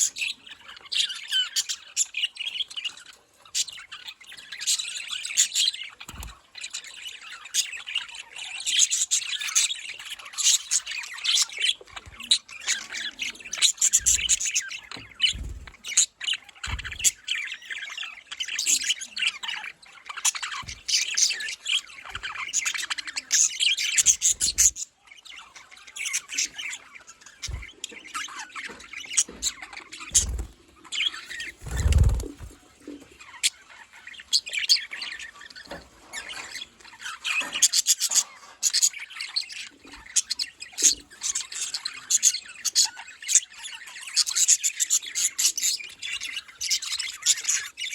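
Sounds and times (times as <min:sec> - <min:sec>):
budgerigars chirping: 0:00.0 - 0:47.9.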